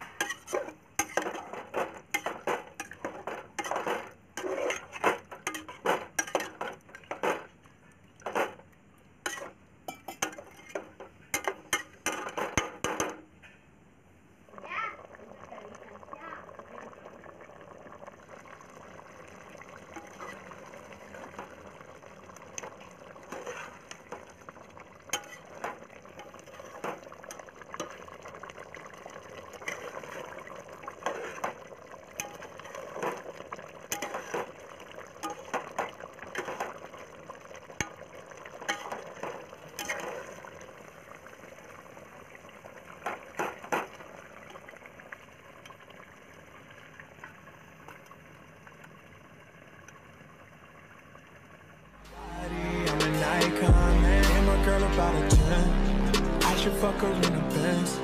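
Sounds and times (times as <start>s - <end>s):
gravy boiling in metal pot: 0.0s - 13.6s, 14.4s - 52.1s.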